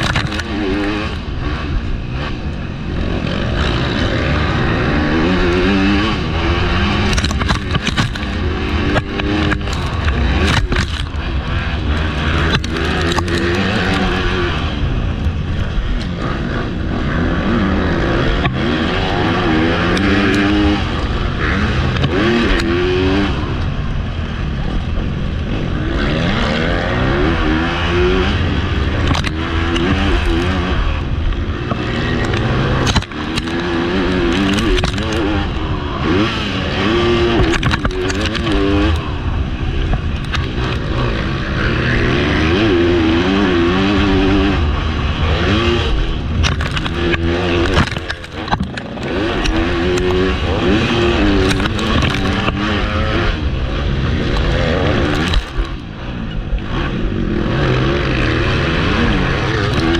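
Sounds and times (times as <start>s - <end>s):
motocross bike engine revving: 0.0s - 59.9s
wind rush on microphone: 0.0s - 59.9s.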